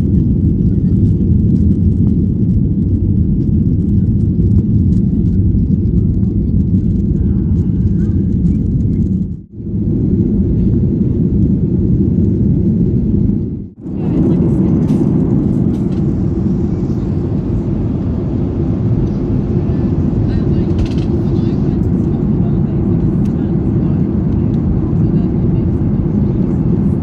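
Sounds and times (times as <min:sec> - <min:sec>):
airliner cabin engine roar: 0:00.0 - 0:27.0.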